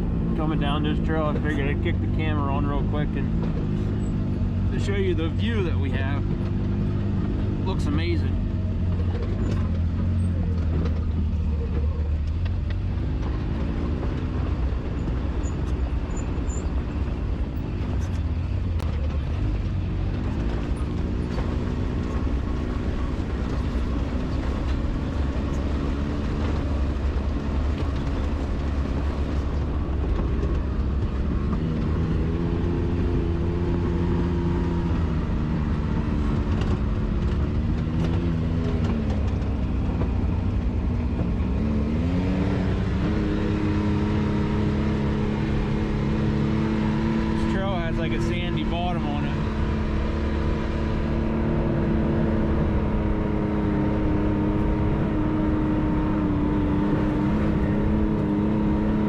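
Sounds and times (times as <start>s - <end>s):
low drivetrain rumble: 0.0s - 59.0s
utility vehicle engine revving: 0.0s - 59.0s.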